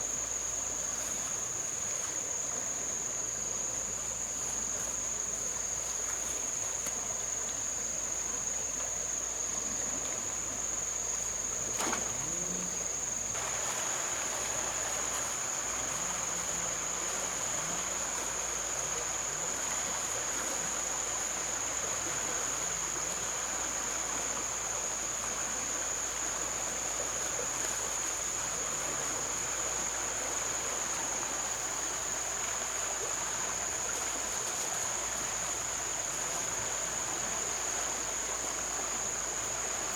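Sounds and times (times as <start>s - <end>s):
flowing river water: 0.0s - 39.9s
insects buzzing: 0.0s - 39.9s.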